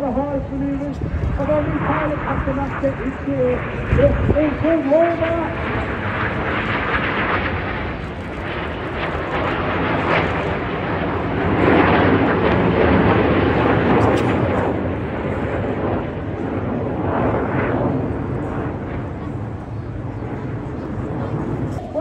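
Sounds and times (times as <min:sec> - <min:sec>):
jets flying past: 0:00.0 - 0:22.0.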